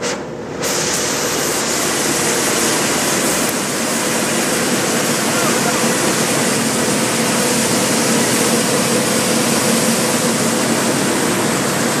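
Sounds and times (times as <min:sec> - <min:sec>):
engine hum: 0:00.0 - 0:12.0
grain pouring into trailer: 0:00.6 - 0:12.0.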